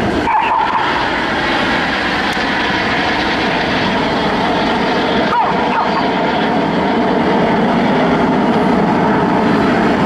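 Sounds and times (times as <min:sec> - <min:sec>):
jet rushing in flight: 0:00.0 - 0:10.0.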